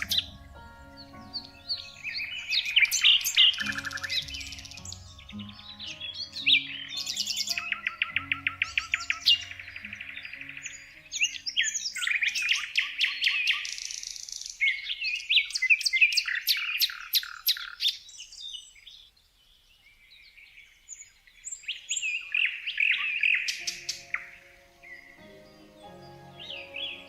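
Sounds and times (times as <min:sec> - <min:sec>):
songbirds chirping and trilling: 0:00.0 - 0:27.0.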